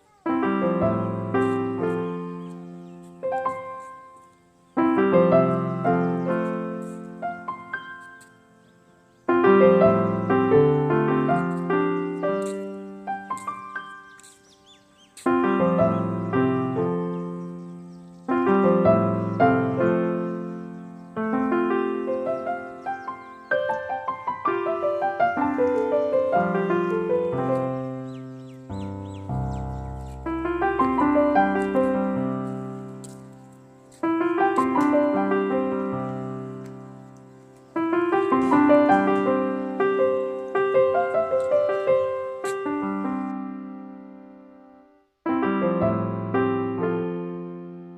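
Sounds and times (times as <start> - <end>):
piano notes ringing: 0.0 - 47.9.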